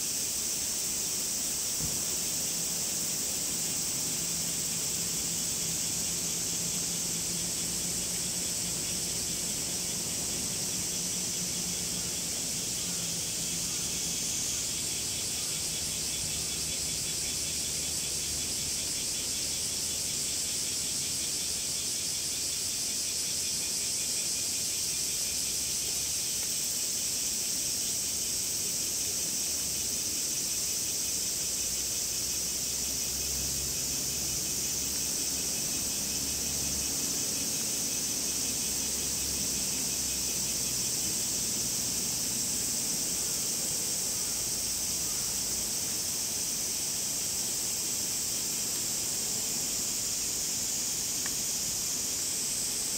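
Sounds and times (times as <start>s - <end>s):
cicadas singing: 0.0s - 52.9s.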